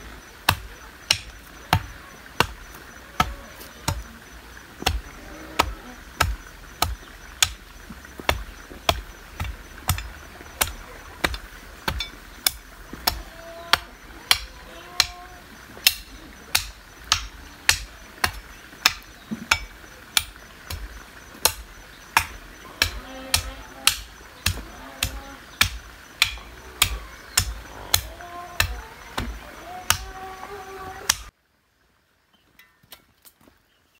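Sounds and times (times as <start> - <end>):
hoe chopping clay soil: 0.3 - 30.2.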